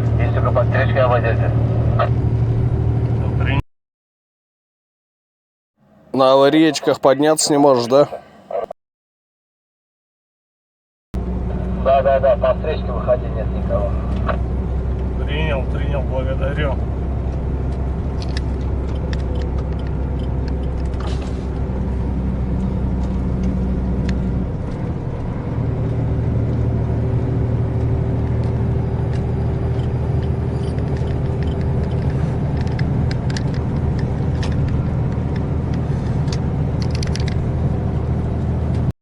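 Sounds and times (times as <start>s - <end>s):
diesel engine hum inside cab: 0.0s - 3.6s, 11.2s - 39.0s.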